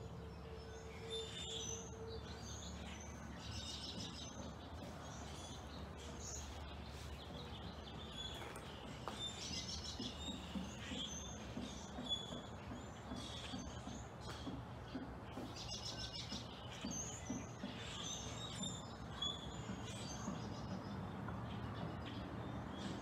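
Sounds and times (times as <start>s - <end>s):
blackbirds chirping and whistling: 0.0s - 23.0s.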